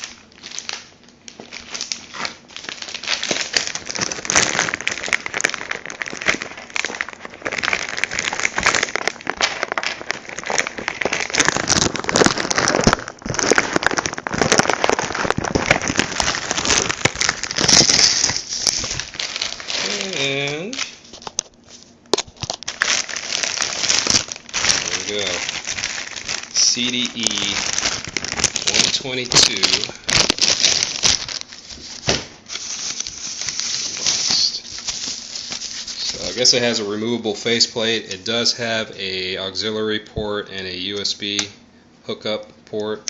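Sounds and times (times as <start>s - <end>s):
packaging wrap crinkling: 0.0s - 38.8s.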